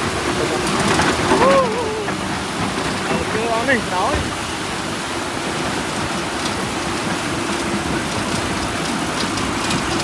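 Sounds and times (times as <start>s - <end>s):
water rushing through sluice gate: 0.0s - 10.0s.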